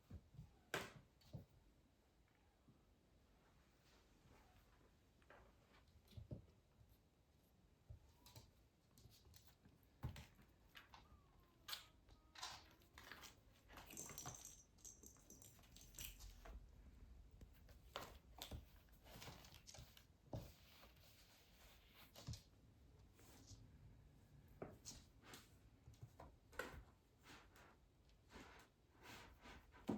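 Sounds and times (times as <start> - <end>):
faint rustling and crinkles: 3.2 - 29.9.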